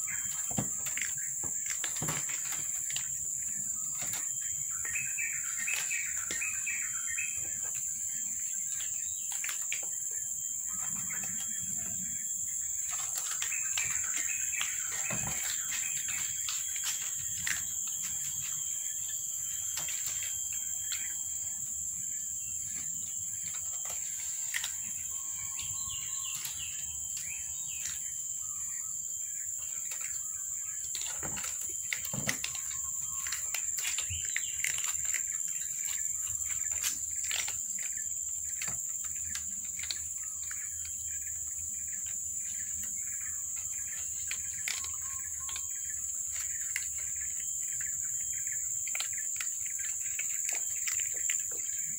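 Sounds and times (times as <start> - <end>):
cats chewing dry kibble: 0.0 - 28.1, 29.3 - 51.9
birds chirping: 0.0 - 51.9
high-pitched insect drone: 0.0 - 51.9.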